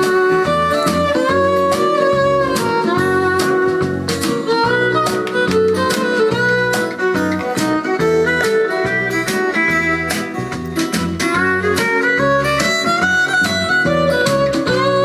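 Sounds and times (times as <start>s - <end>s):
recorded song through amplifier: 0.0s - 15.0s.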